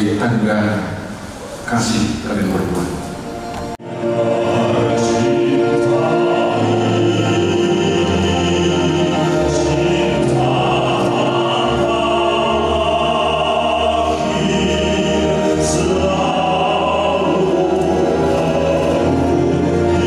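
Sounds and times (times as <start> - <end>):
choir singing slow music: 3.2 - 20.0.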